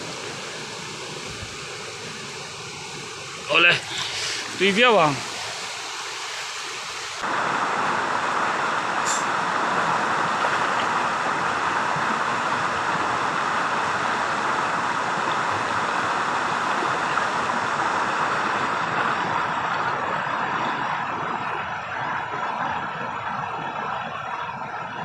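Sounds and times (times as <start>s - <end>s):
river rapids rushing over stones: 0.0s - 23.3s.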